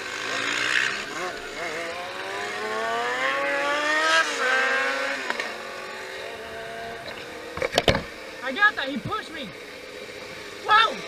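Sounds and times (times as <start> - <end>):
dirt bike engine accelerating: 0.0 - 11.0.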